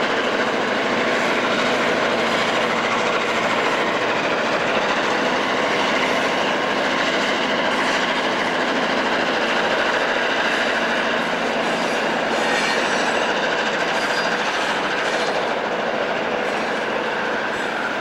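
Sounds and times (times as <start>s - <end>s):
freight train passing: 0.0s - 18.0s.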